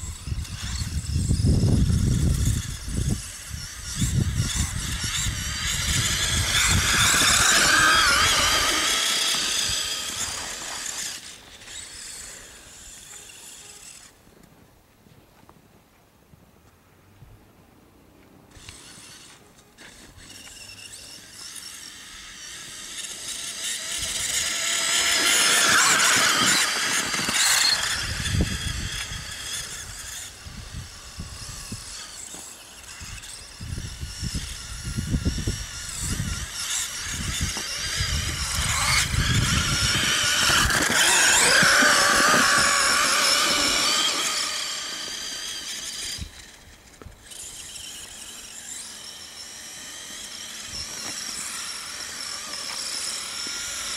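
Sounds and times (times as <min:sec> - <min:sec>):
electric motor whining: 0:00.0 - 0:14.2, 0:18.5 - 0:53.9.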